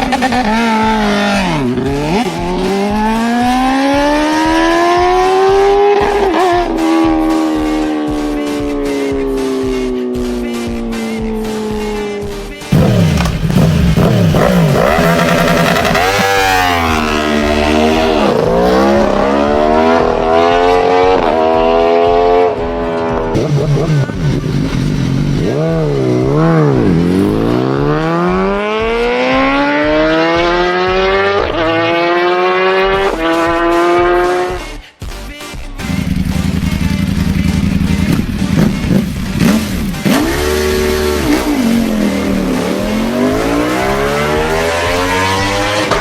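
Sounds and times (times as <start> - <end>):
motorcycle engine revving: 0.0 - 34.6, 35.9 - 46.0.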